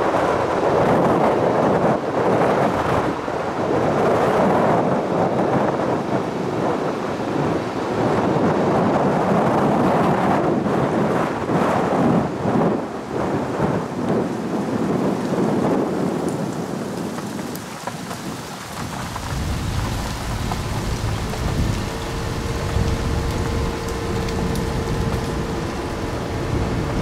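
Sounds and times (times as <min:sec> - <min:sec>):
car wind and road noise: 0:00.0 - 0:27.0.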